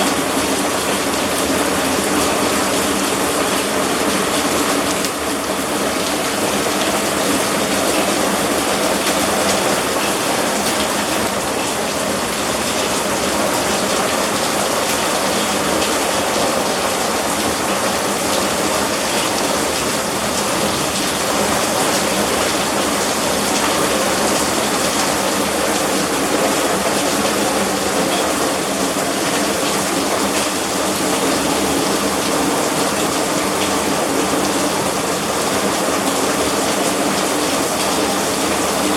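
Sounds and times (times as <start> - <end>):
heavy rain rushing: 0.0 - 38.9.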